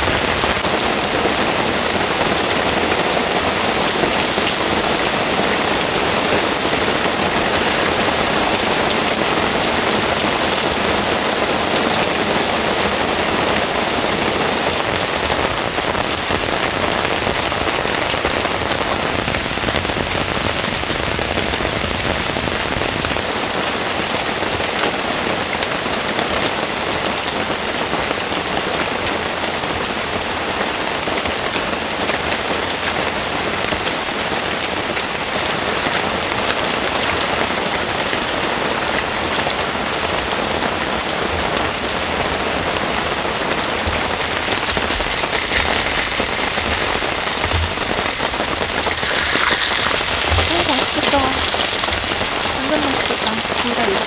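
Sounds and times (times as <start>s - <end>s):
heavy rain falling: 0.0s - 54.0s
water streaming off roof edge: 0.0s - 54.0s.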